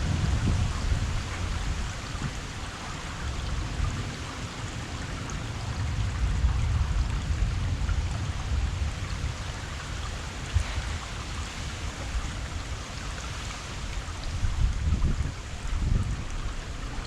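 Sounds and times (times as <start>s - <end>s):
heavy rain: 0.0s - 17.0s
low uneven rumble: 0.0s - 17.0s.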